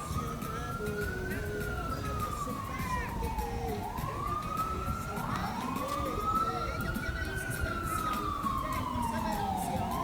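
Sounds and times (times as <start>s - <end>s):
emergency vehicle siren wailing: 0.0s - 10.0s.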